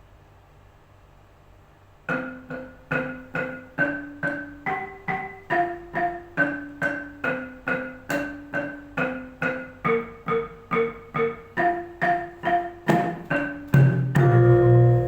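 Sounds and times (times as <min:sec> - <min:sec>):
struck keyed instrument melody: 0:02.1 - 0:15.0.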